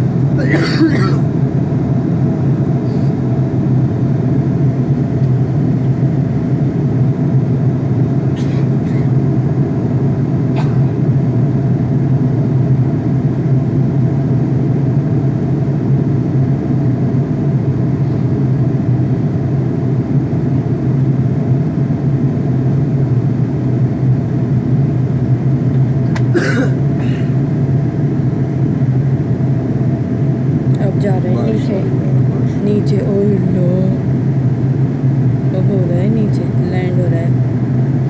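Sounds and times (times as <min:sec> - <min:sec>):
airliner cabin engine drone: 0:00.0 - 0:38.0.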